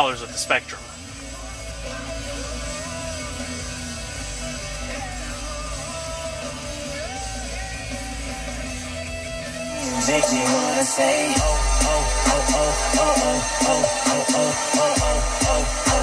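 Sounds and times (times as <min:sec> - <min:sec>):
song with singing and guitar: 0:00.0 - 0:16.0.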